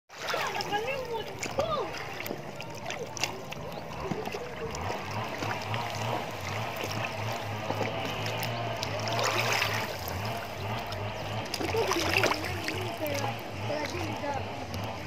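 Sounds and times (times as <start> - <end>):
small waves lapping on shore: 0.1 - 15.0
steady low hum: 0.2 - 15.0.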